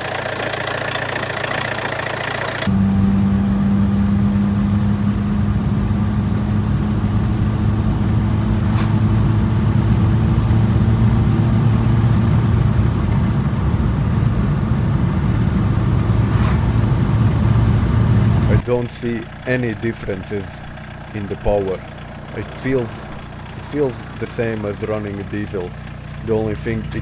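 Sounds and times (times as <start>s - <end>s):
diesel engine drone: 0.0s - 27.0s
road rumble: 0.0s - 27.0s.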